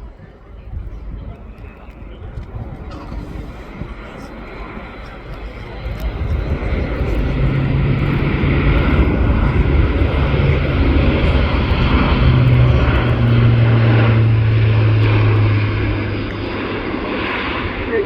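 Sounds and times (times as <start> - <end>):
turboprop aircraft flying past: 1.2 - 18.0.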